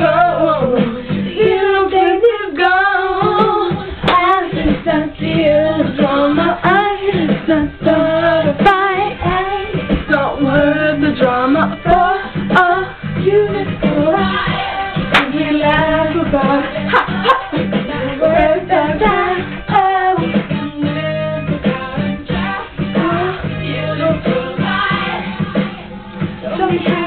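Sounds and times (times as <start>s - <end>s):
pop song with female vocals: 0.0s - 27.0s.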